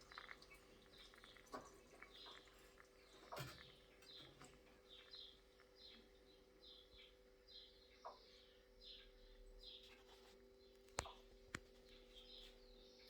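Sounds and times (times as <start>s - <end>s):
quiet steady hum: 0.0s - 13.0s.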